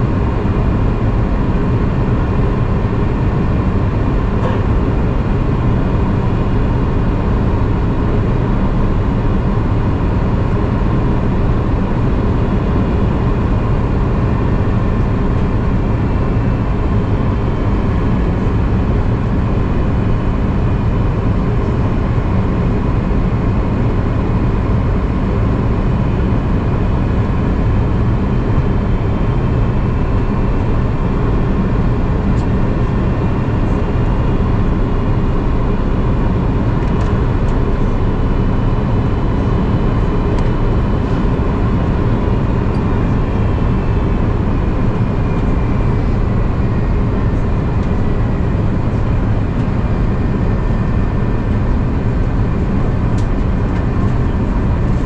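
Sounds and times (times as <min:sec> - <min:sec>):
aircraft engines droning: 0:00.0 - 0:55.0.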